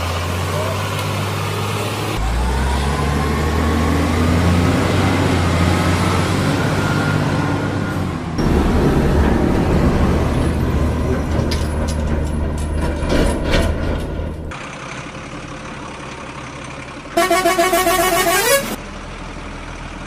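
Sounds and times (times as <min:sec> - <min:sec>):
heavy diesel truck engine running: 0:00.0 - 0:20.0.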